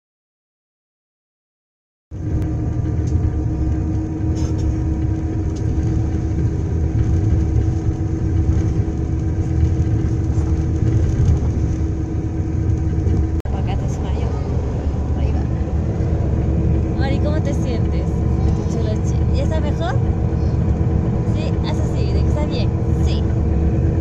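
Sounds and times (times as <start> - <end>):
engine and tyre rumble: 2.1 - 24.0
steady hum: 2.2 - 24.0.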